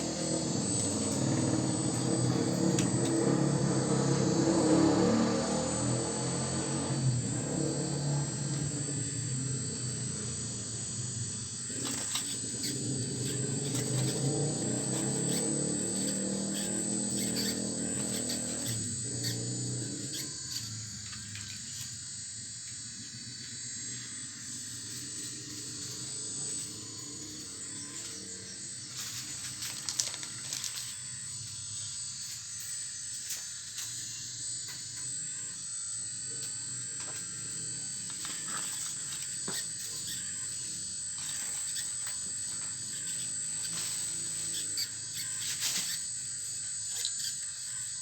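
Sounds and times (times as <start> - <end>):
hydraulic pump whine: 0.0 - 48.0.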